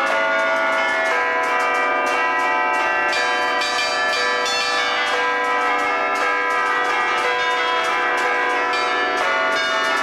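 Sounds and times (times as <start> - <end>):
bells ringing a lively tune: 0.0 - 10.0.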